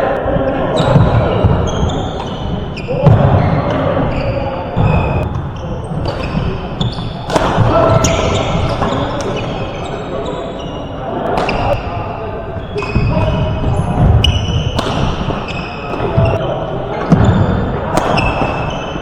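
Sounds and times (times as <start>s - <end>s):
voices: 0.0s - 19.0s
shoes squeaking on floor: 0.1s - 19.0s
rackets hitting shuttlecock: 0.2s - 19.0s.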